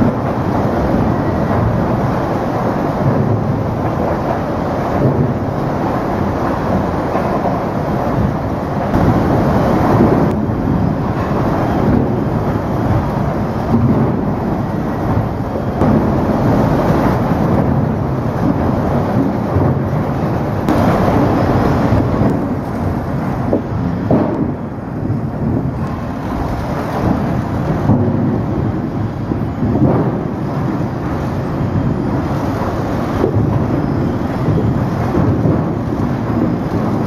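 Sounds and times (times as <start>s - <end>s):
sawmill machinery running: 0.0s - 37.0s.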